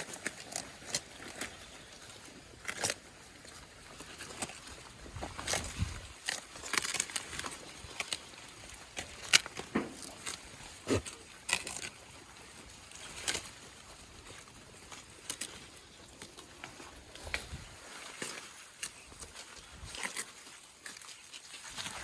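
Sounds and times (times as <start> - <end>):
goats feeding: 0.0 - 22.0
rustling of leaves: 0.0 - 22.0.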